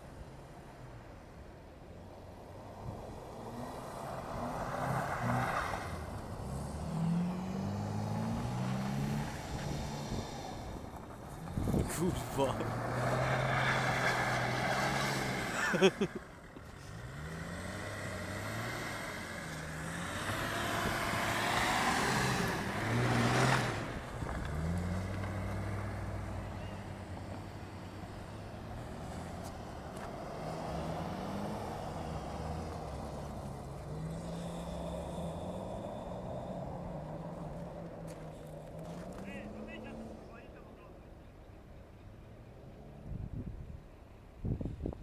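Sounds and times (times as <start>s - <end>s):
car engine revving: 3.1s - 40.9s.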